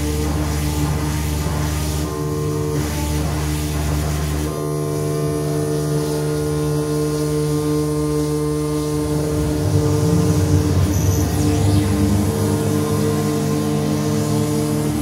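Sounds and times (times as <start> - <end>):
synthesizer drone: 0.0 - 15.0.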